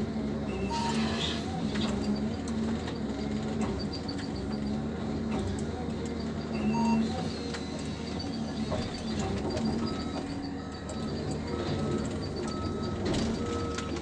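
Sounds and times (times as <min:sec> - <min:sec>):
engine and hydraulics running: 0:00.0 - 0:14.0.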